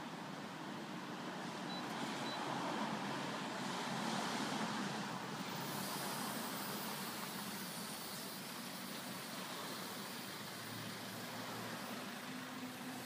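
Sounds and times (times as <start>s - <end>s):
road traffic: 0.0s - 13.0s
wind: 0.0s - 13.0s.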